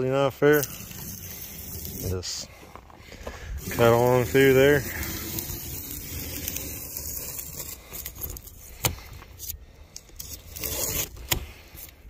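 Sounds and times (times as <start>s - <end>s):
knife scraping styrofoam and wood: 0.4s - 12.0s.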